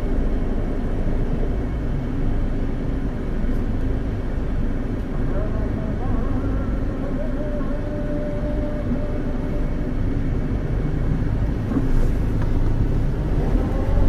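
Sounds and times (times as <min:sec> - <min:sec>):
traffic engine rumble: 0:00.0 - 0:14.0.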